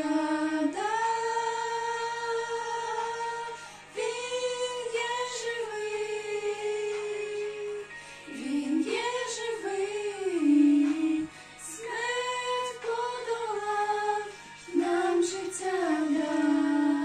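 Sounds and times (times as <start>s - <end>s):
women singing together: 0.0s - 17.0s.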